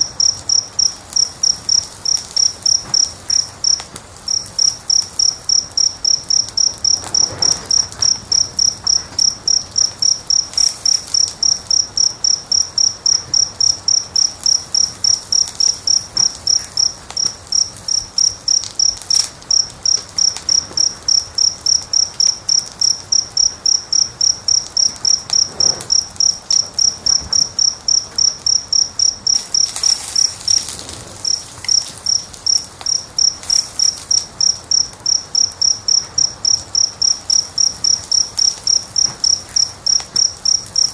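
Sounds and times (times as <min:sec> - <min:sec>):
cricket chirping: 0:00.0 - 0:40.9
faint wood fire crackles: 0:00.0 - 0:40.9.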